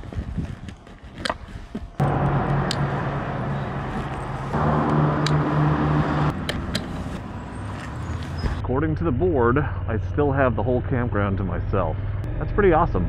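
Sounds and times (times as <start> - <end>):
vehicle engine running: 1.9 - 13.0.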